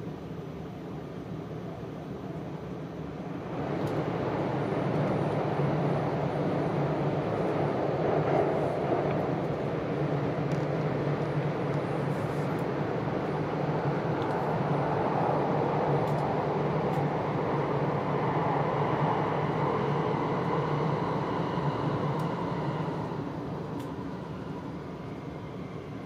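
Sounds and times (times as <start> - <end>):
train cabin running noise: 0.0 - 26.0.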